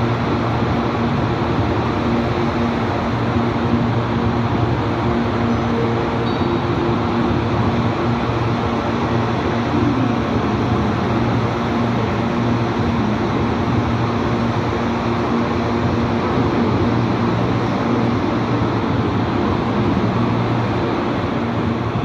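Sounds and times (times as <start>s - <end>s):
electric train humming: 0.0s - 22.0s
low steady tones: 0.0s - 22.0s.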